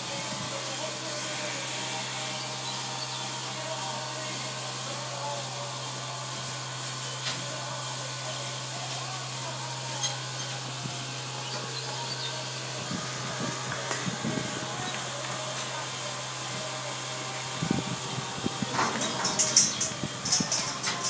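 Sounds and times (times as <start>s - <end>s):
machinery hum and hiss: 0.0s - 21.0s.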